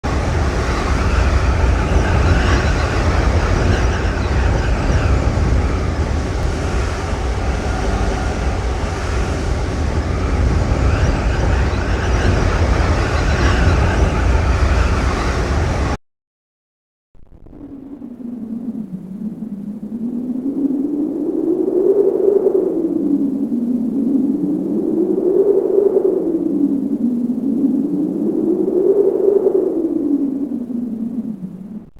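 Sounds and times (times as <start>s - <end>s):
wind rushing over deep rumble: 0.0s - 16.0s, 17.4s - 31.9s.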